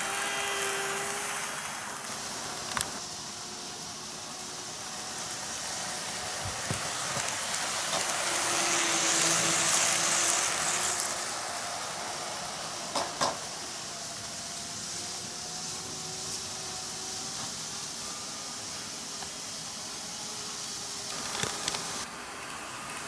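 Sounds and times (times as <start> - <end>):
model train whirring past: 0.0 - 23.0.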